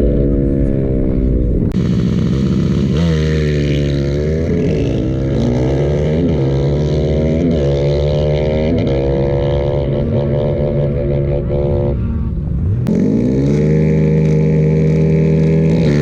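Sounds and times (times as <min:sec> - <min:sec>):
racing engines revving: 0:00.0 - 0:16.0.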